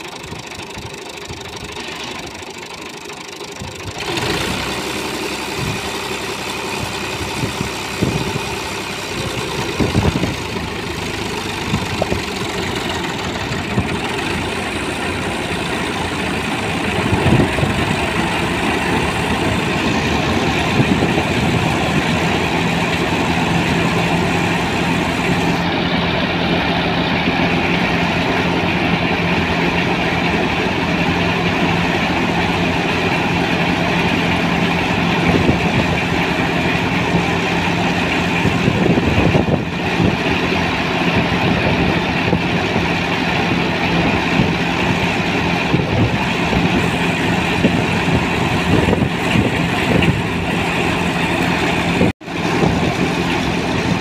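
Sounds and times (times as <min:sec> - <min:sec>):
thresher mechanical hum and whir: 0:00.0 - 0:54.0
tractor diesel engine under load: 0:00.0 - 0:54.0.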